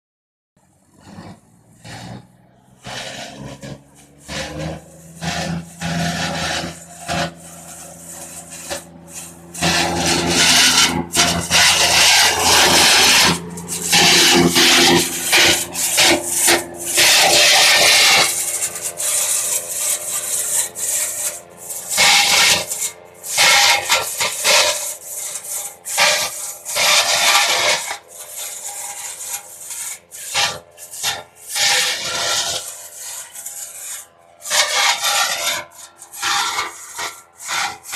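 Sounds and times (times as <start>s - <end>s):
machine chopping dry stalks: 0.6s - 37.9s
tractor diesel engine running: 0.6s - 37.9s.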